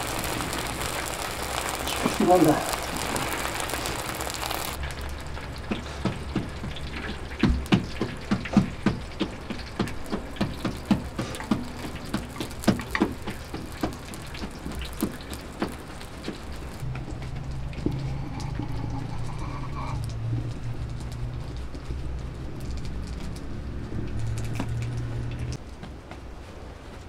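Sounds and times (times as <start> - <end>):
flatbread sizzling in oil: 0.0 - 25.6
oil popping and crackling: 0.0 - 26.2.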